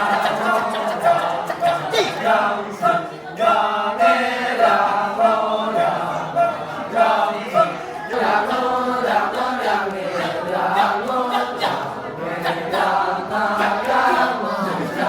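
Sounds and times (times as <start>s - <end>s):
chorus of voices chanting: 0.0s - 15.0s.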